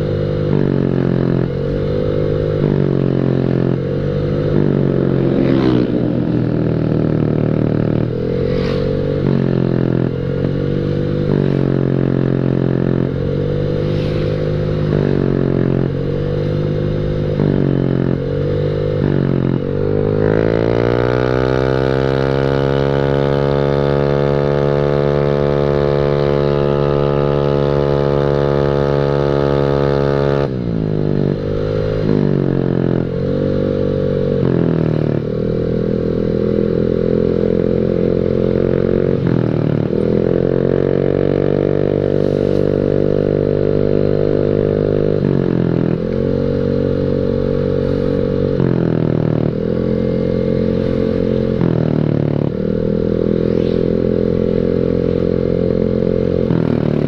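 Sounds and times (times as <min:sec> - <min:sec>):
scooter engine revving: 0:00.0 - 0:57.0.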